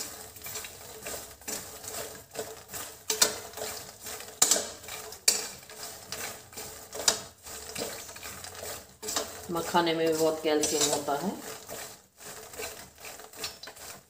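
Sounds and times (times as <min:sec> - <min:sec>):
spatula scraping a metal pan: 0:00.0 - 0:14.0.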